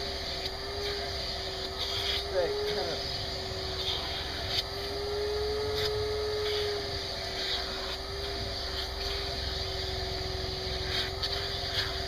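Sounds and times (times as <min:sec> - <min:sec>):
shop vacuum whining: 0:00.0 - 0:12.0.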